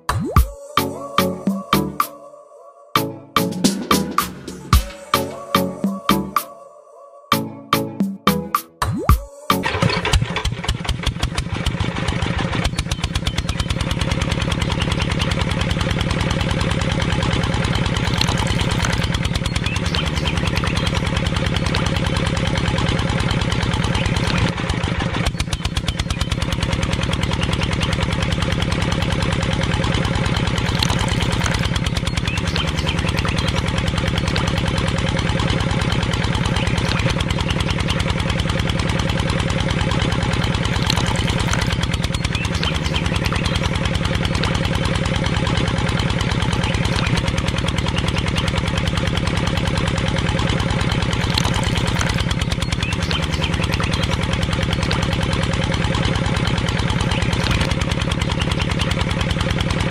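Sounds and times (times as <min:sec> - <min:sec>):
model tractor engine chugging: 0:09.4 - 0:59.9.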